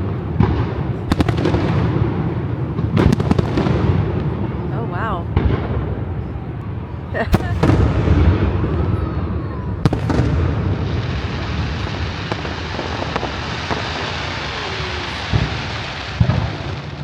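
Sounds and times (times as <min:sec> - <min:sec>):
fireworks rumbling and crackling: 0:00.0 - 0:17.0
sharp firework bangs: 0:00.0 - 0:17.0.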